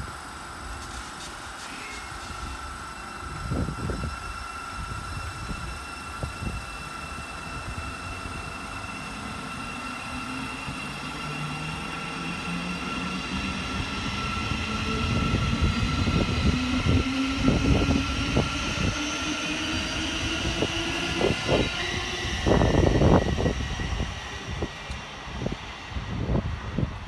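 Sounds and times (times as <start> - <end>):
traction motor whine: 1.8 - 25.5.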